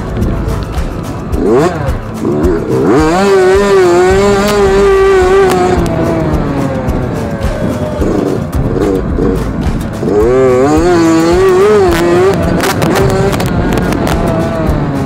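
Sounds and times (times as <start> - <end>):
two-stroke dirt bike engine revving: 0.0 - 15.0.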